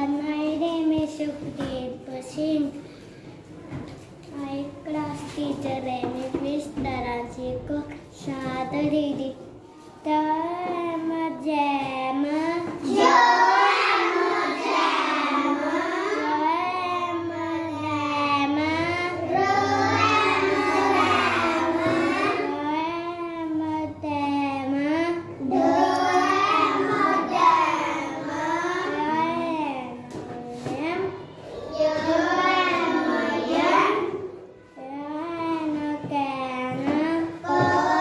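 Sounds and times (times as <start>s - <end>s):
boy reading aloud in sing-song: 0.0s - 38.0s.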